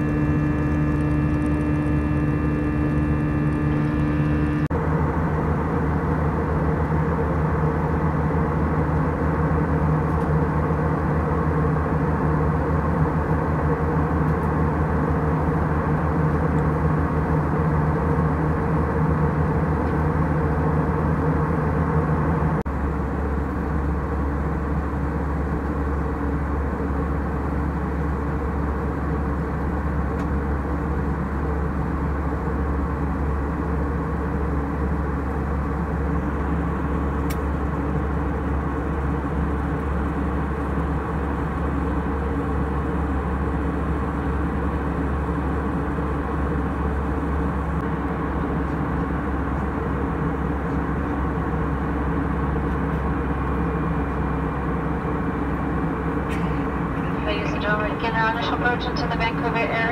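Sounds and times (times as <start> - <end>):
jet engine drone: 0.0 - 59.9.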